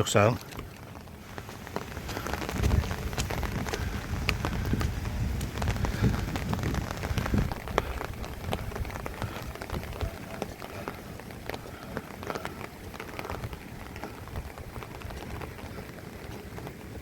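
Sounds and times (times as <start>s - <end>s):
rain drops ticking: 0.0s - 17.0s
steady rain hiss: 0.0s - 17.0s.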